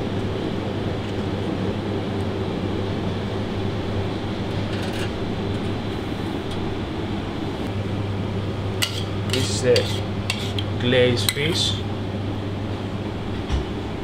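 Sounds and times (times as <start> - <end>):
ventilation fan droning: 0.0 - 14.0.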